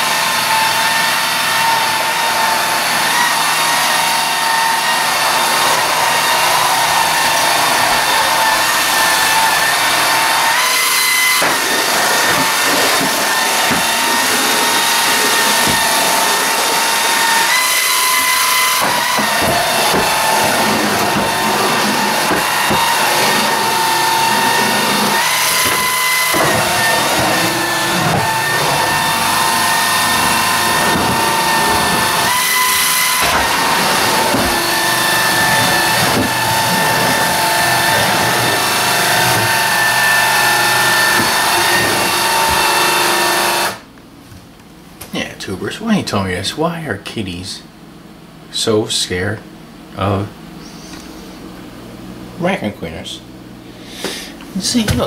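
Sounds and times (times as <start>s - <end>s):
stick vacuum cleaner running: 0.0s - 44.1s, 50.0s - 55.0s.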